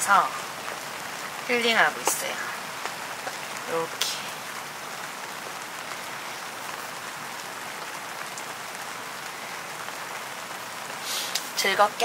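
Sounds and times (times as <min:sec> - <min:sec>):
rain falling on a tent: 0:00.0 - 0:12.0.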